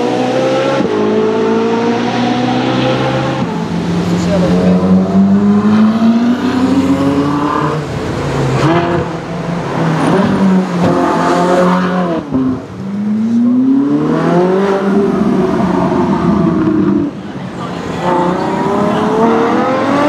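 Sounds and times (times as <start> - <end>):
car engines accelerating past: 0.0 - 17.2.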